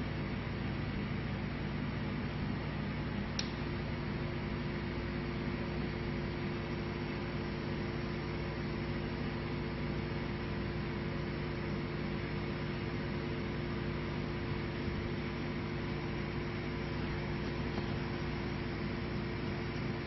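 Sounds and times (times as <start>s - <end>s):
mechanical hum with fan hiss: 0.0s - 20.0s.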